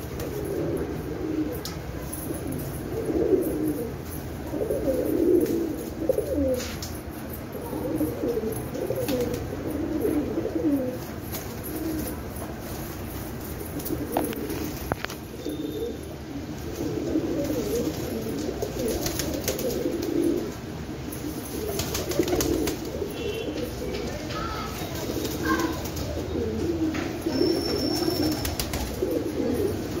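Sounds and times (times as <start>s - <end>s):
pigeons cooing: 0.0s - 12.4s, 13.5s - 30.0s.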